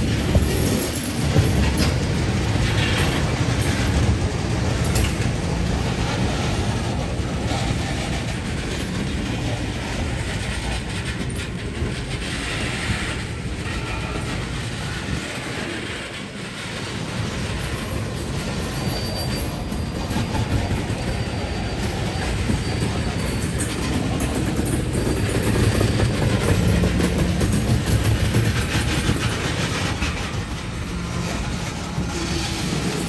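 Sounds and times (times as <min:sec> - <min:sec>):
tank cars rolling on rails: 0:00.0 - 0:33.0.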